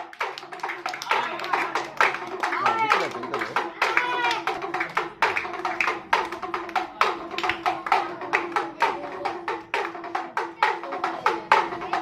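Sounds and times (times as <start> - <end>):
small hand drum beaten: 0.0 - 12.0.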